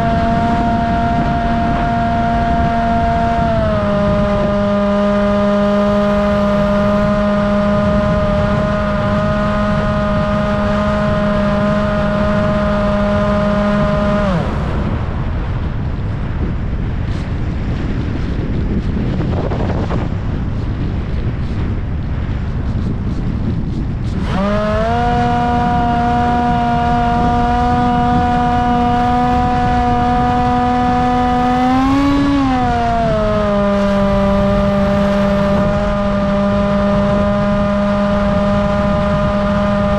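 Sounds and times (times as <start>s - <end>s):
electric motor and propeller whine: 0.0s - 39.9s
wind rushing: 0.0s - 39.9s.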